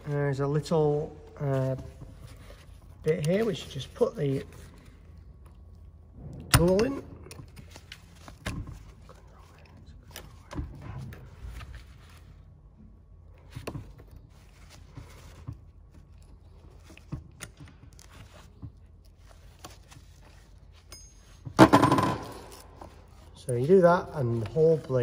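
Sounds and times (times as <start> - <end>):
glove handling noise: 0.0 - 25.0.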